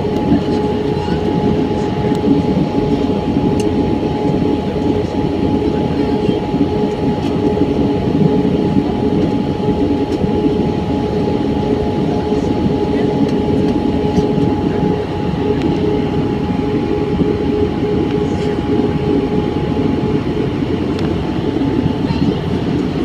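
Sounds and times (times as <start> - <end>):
constant hum tone: 0.0 - 23.0
jet engine and airflow rumble: 0.0 - 23.0.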